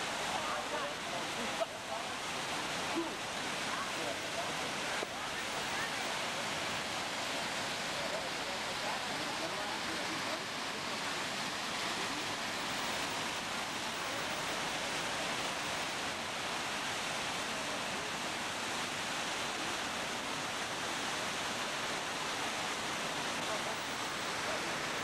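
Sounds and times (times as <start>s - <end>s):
waterfall rushing down rocks: 0.0s - 25.0s.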